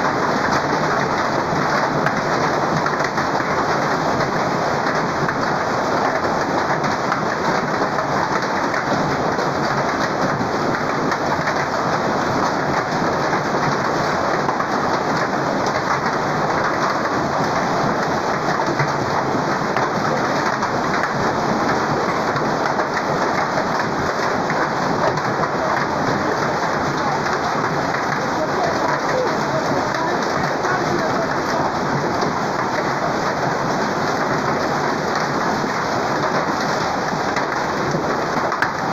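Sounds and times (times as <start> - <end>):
hail and heavy rain pelting: 0.0 - 38.9.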